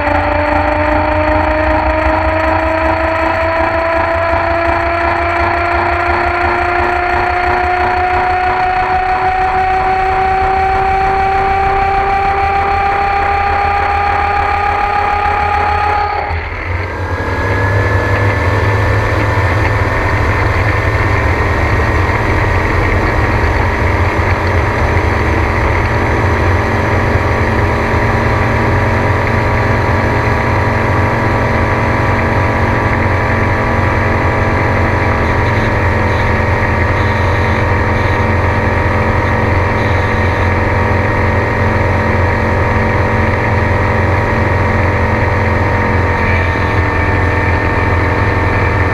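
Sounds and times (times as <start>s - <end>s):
gyrocopter engine and propeller: 0.0s - 48.9s.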